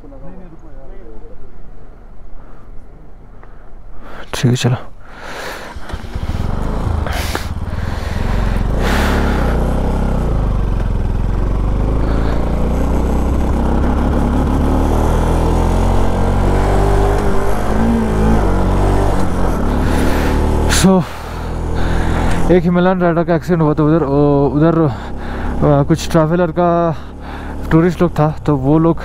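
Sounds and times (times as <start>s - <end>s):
motorcycle engine running: 5.6s - 29.0s.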